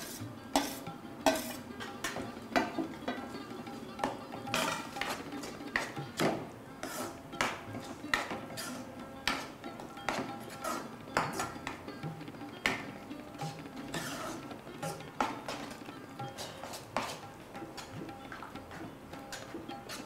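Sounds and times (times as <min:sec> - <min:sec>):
spatula scraping and knocking pan: 0:00.0 - 0:03.4, 0:04.0 - 0:11.8, 0:13.4 - 0:20.0.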